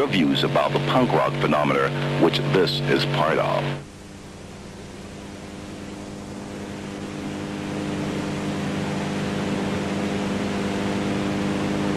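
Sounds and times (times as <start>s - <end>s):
low droning hum: 0.0s - 11.9s.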